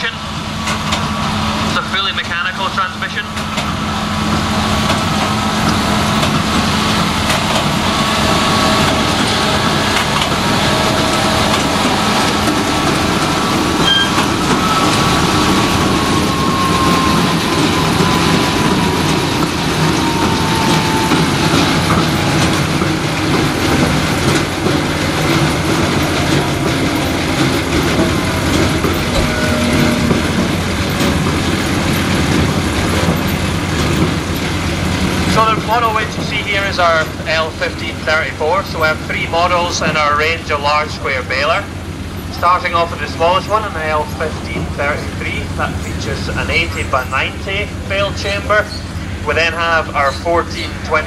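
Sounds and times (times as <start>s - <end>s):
tractor and baler running: 0.0s - 51.0s.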